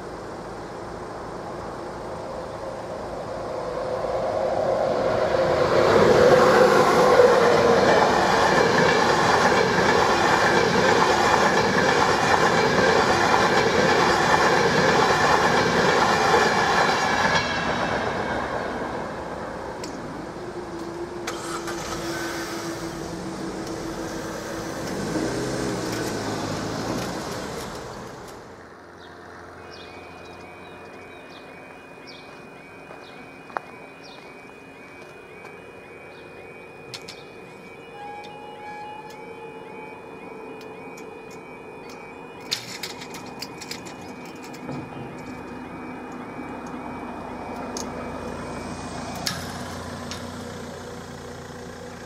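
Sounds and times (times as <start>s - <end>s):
train wheels on rails: 0.0s - 52.0s
high crossing alarm tone: 2.3s - 52.0s.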